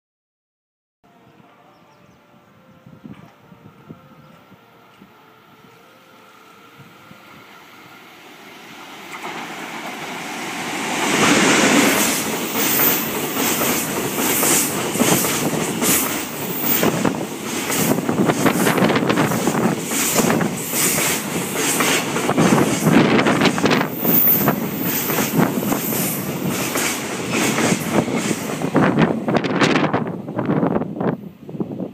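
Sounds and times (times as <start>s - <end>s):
electric locomotive passing: 1.1s - 31.9s.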